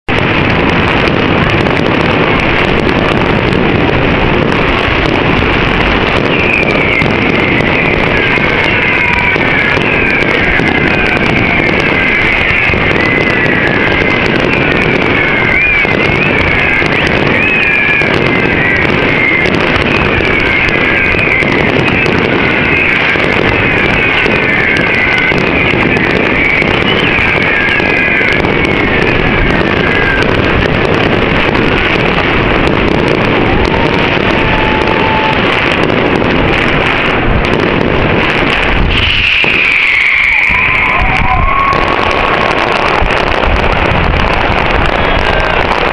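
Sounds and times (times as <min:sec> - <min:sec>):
wind on microphone: 0:00.0 - 0:45.9.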